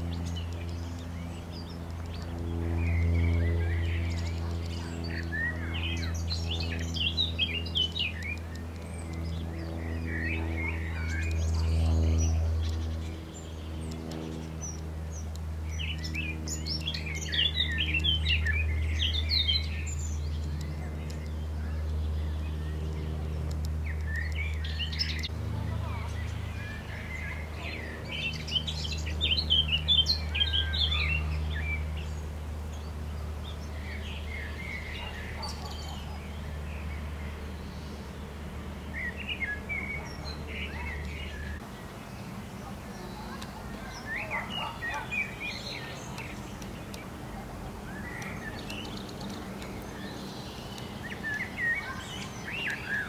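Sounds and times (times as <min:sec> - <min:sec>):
birds chirping: 0:00.0 - 0:53.0
steady low hum: 0:00.0 - 0:53.0.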